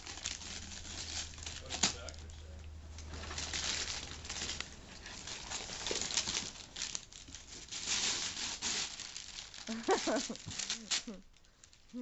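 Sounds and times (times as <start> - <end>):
wrapping paper tearing and rustling: 0.0 - 12.0.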